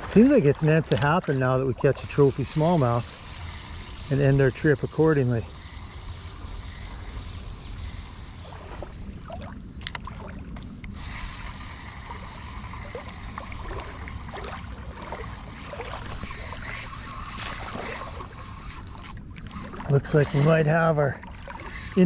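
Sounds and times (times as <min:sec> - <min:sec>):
creek water splashing: 0:00.0 - 0:22.0.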